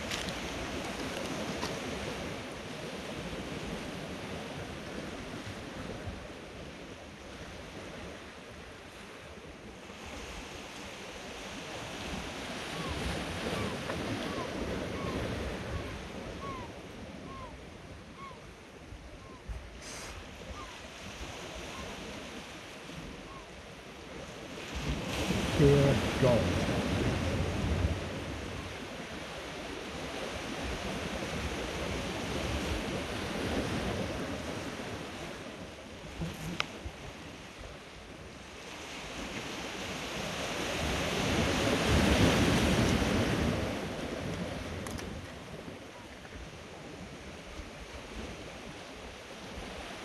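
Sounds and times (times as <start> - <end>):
wind on microphone: 0.0 - 50.0.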